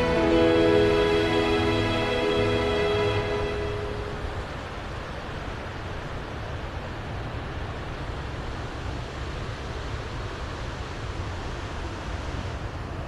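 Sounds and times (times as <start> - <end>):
river rushing over rocks: 0.0 - 12.9.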